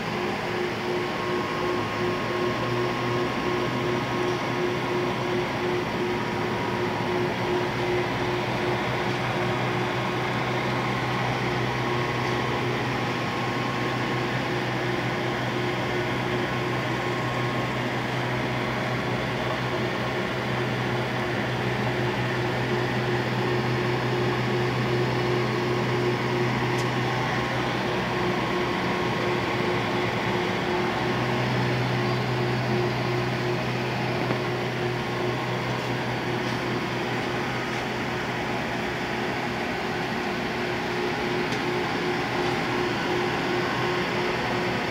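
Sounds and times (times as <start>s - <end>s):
lathe motor and gearbox hum: 0.0s - 44.9s.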